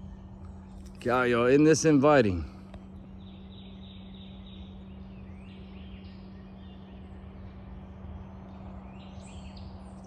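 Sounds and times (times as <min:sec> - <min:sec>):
birds chirping: 0:00.0 - 0:10.0
low hum and rumble: 0:00.0 - 0:10.0.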